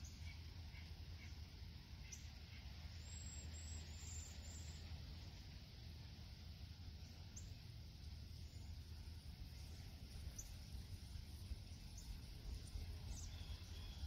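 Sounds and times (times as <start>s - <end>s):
soft hiss: 0.0s - 14.0s.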